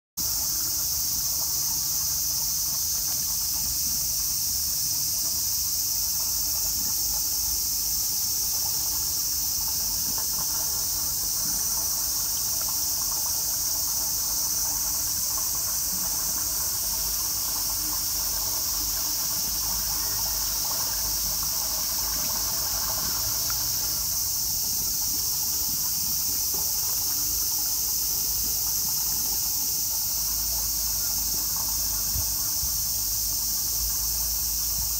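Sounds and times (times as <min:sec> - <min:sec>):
cicadas droning: 0:00.2 - 0:34.9.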